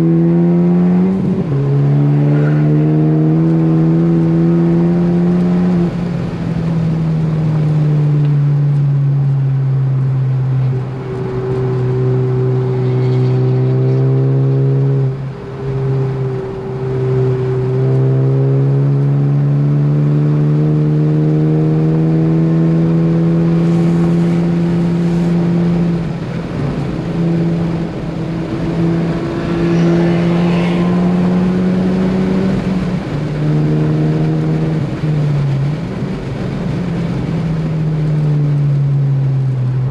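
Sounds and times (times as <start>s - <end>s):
car engine pulling hard: 0.0s - 39.9s.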